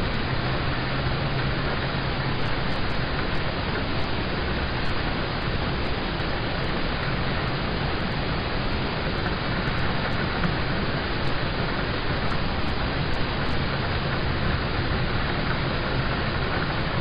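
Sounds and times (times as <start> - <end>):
rain on a car: 0.0 - 17.0.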